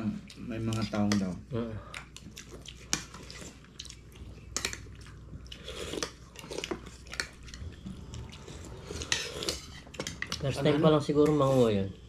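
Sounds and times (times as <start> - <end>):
person chewing: 0.1 - 11.4.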